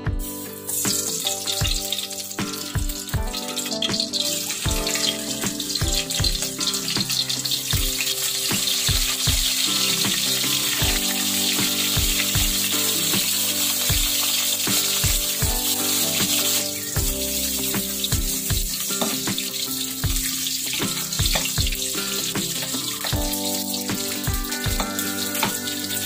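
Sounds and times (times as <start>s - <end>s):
fish sizzling in hot oil: 0.3s - 26.0s.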